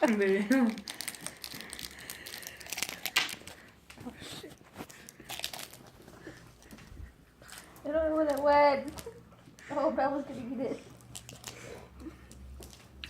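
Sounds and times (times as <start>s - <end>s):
plastic wrapper crinkling: 0.0s - 9.2s, 10.9s - 13.0s.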